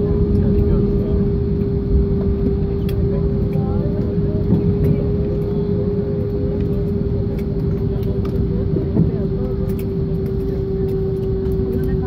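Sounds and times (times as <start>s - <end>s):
airliner cabin low rumble: 0.0s - 12.0s
steady hum: 0.0s - 12.0s.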